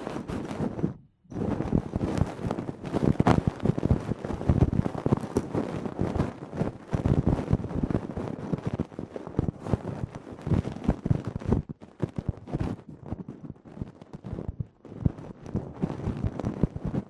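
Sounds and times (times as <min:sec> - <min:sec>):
ear pick scratching microphone: 0:00.0 - 0:17.0.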